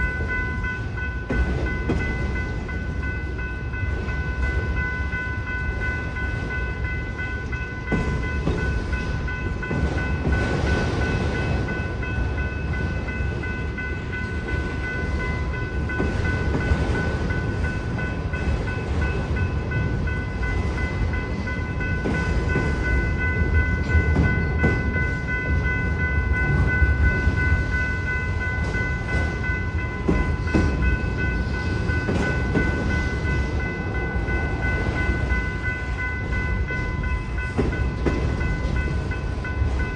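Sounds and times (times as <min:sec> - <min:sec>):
crossing bell ringing: 0:00.0 - 0:39.9
freight train rumbling: 0:00.0 - 0:39.9.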